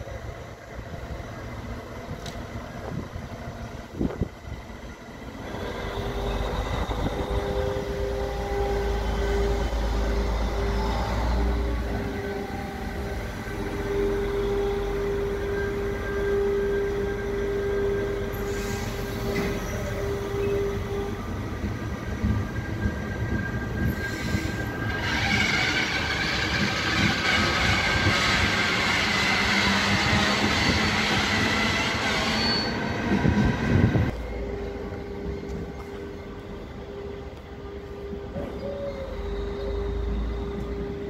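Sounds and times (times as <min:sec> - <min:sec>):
train rolling past: 0:00.0 - 0:41.0
train wheels squealing: 0:05.3 - 0:36.2, 0:38.3 - 0:41.0.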